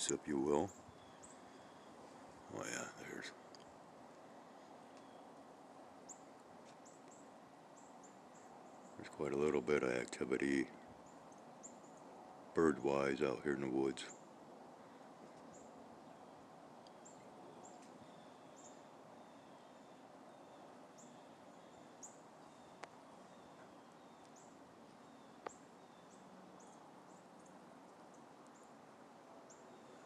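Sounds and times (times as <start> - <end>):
outdoor hiss: 0.0 - 30.0.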